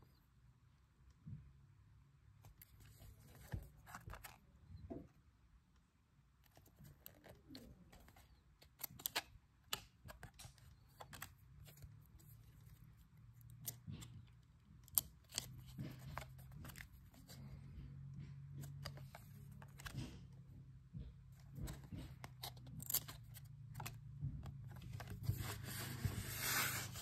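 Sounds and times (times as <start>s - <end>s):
cards clicking and rustling: 2.4s - 4.4s, 6.4s - 20.5s, 21.3s - 27.0s.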